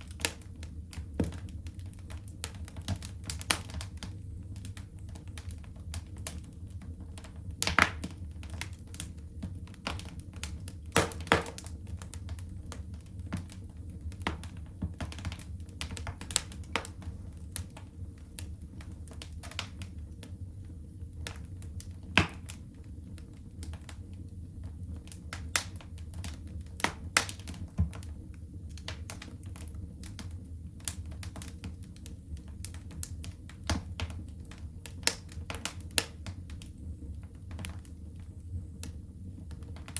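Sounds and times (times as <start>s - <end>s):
low fire rumble: 0.0s - 39.9s
wood fire crackling: 0.0s - 39.9s.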